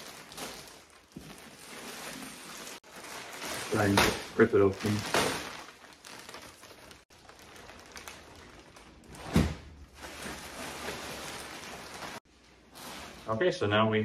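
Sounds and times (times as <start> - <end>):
plastic wrapping crinkling: 0.0 - 13.4.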